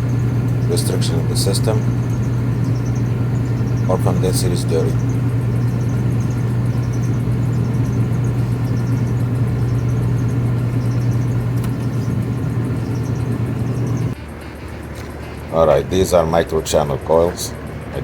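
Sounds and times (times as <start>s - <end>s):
air conditioner low hum: 0.0s - 18.0s.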